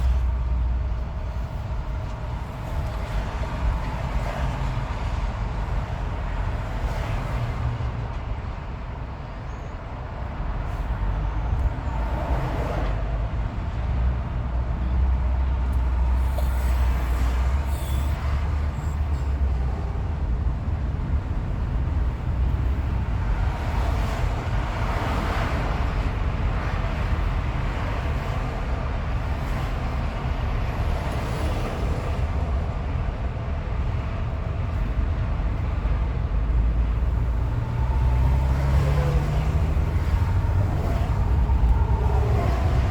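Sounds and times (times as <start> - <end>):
car road and tyre noise: 0.0 - 42.9.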